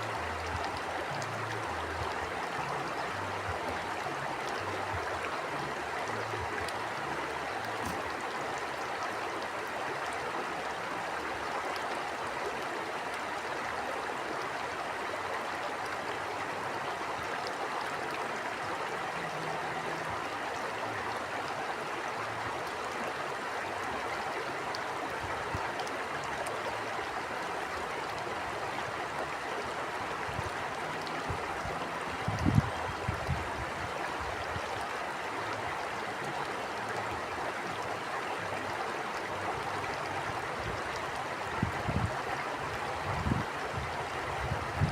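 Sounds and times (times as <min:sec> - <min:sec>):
stream flowing: 0:00.0 - 0:44.9.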